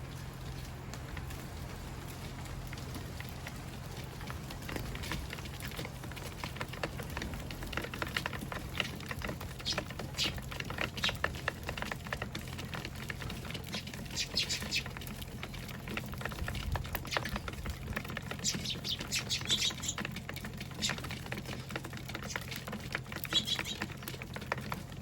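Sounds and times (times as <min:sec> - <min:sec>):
birds pecking seed clicks: 0:00.0 - 0:25.0.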